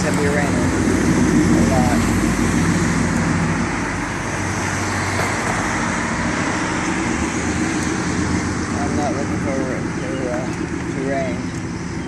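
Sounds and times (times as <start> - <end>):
low engine hum: 0.0 - 12.0
road noise: 0.0 - 12.0.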